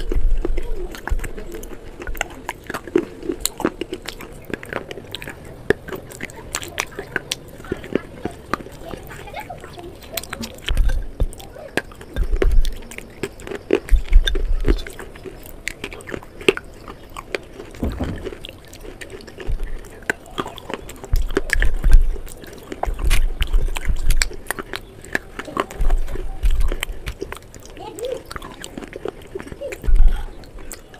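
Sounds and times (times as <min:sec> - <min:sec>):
crunching and chewing: 0:00.0 - 0:30.9.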